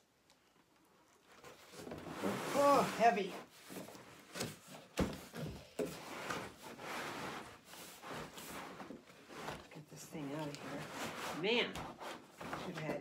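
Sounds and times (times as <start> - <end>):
cardboard box scraping: 1.3 - 4.8, 5.4 - 13.0.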